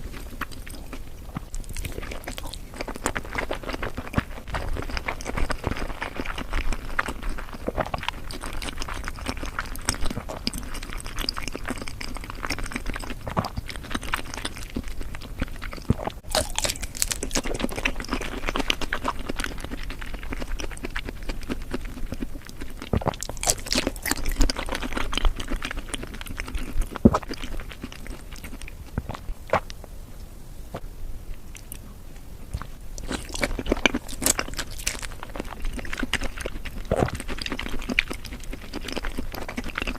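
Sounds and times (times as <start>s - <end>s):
close chewing mouth sounds: 0.0s - 39.9s.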